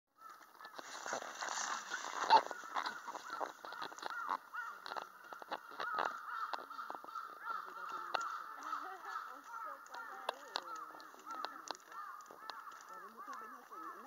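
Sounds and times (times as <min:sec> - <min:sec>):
flock of birds calling: 0:00.2 - 0:14.0.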